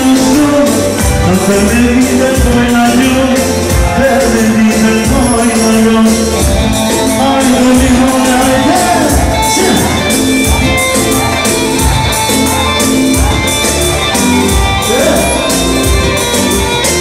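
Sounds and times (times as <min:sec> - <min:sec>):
loud music with drum beat: 0:00.0 - 0:17.0.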